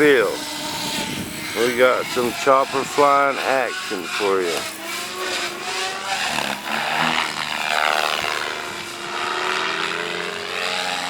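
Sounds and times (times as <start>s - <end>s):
radio-controlled helicopter whine: 0.0s - 11.0s.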